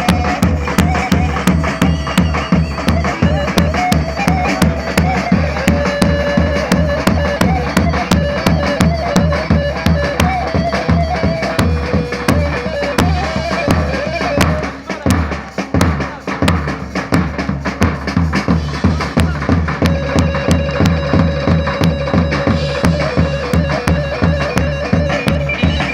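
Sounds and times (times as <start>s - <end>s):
reedy pipe melody: 0.0s - 15.8s, 18.6s - 25.9s
bass drum beat: 0.0s - 25.9s.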